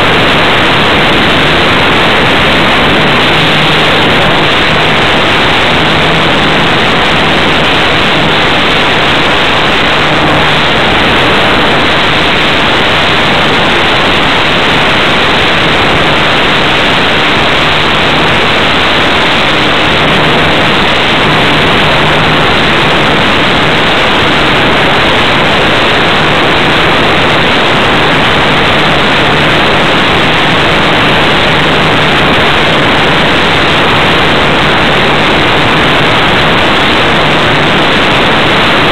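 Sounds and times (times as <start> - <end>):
airflow rushing over microphone: 0.0 - 38.9.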